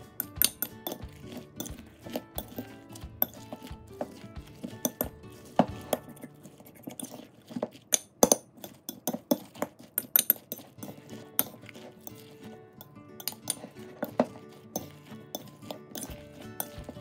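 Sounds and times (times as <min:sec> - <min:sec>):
spoon clinking in ceramic bowl: 0:00.0 - 0:07.2, 0:07.9 - 0:17.0.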